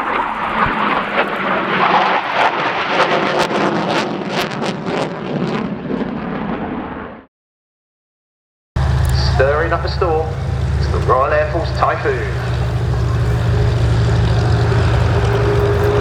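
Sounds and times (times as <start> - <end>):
jet engine roar with crackles: 0.0 - 7.2, 8.8 - 16.0.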